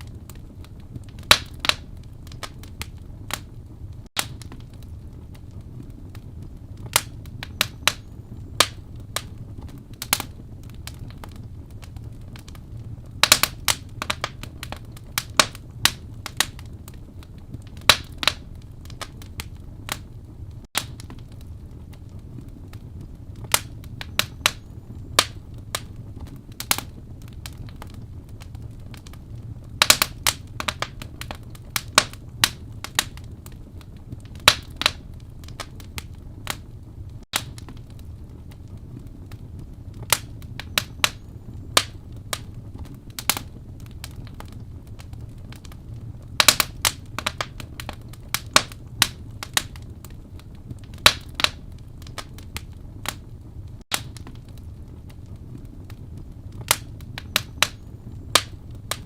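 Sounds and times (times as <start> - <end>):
fire crackles and pops: 0.0 - 59.0
low rumble of flames: 0.0 - 59.0.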